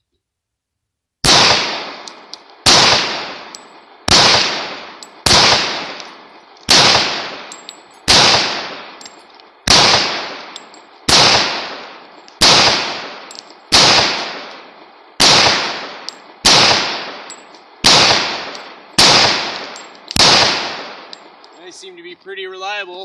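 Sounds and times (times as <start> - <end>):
pistol shots with echo: 1.2 - 21.3.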